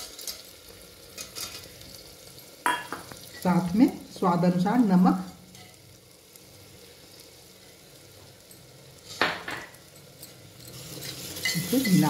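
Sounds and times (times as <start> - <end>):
food sizzling in a pressure cooker: 0.0 - 12.0.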